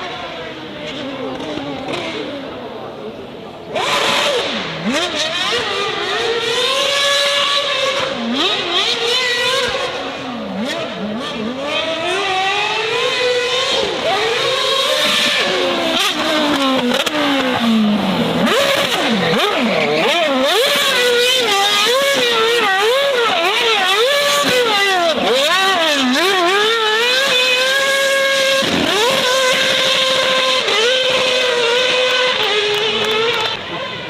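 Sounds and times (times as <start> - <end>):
racing car engines revving: 0.0 - 34.0.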